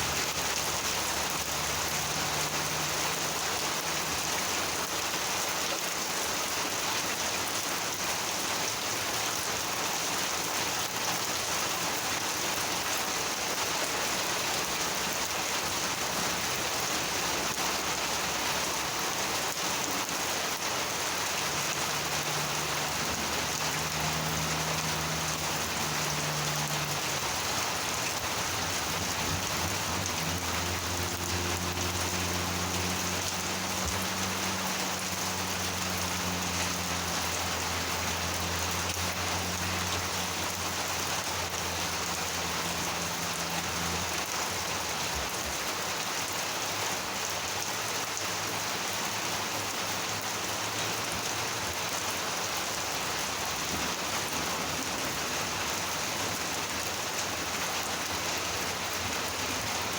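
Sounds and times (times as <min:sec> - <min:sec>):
rain falling on surfaces: 0:00.0 - 0:59.9.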